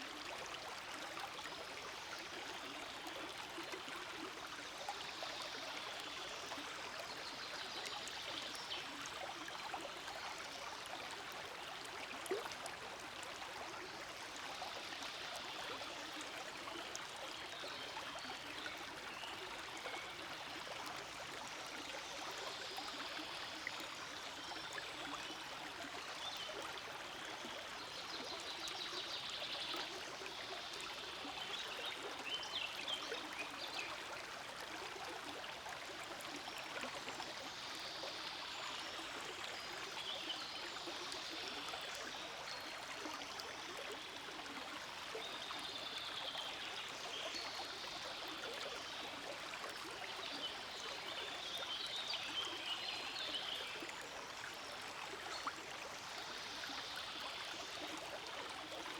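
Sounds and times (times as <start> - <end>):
stream burbling over stones: 0.0 - 58.9.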